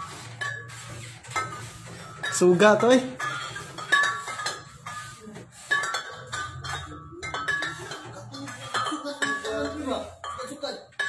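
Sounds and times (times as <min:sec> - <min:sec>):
chandelier crystals clinking: 0:00.0 - 0:11.0.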